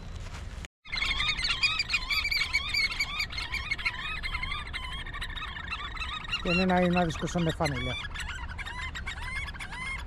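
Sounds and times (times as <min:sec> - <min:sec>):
oystercatchers piping: 0:00.9 - 0:10.0.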